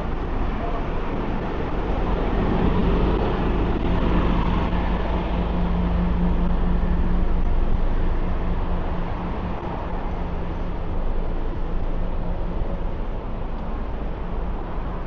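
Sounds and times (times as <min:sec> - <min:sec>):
engine low hum: 0:00.0 - 0:15.0
traffic rumble: 0:00.0 - 0:15.0.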